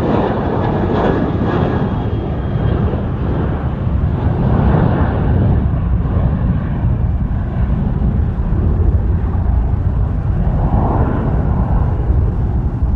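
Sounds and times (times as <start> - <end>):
jet engines rumbling: 0.0 - 12.9.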